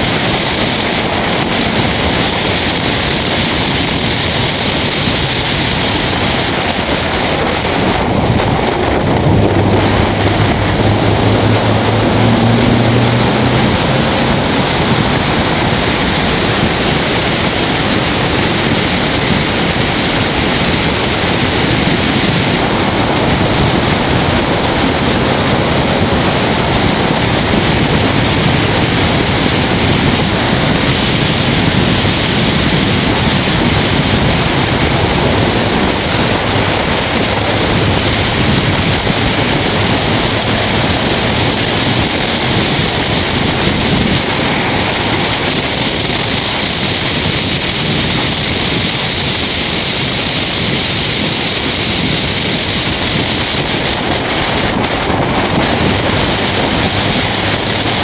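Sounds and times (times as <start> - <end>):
engine drone: 0.0 - 58.0
road noise: 0.0 - 58.0
wind rushing over microphone: 0.0 - 58.0.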